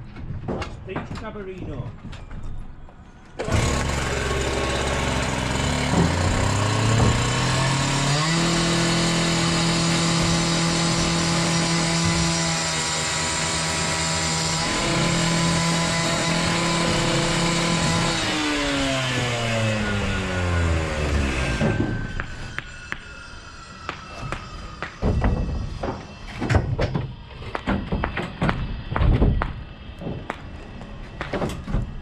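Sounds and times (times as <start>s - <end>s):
disc cutter cutting masonry: 3.4s - 29.4s.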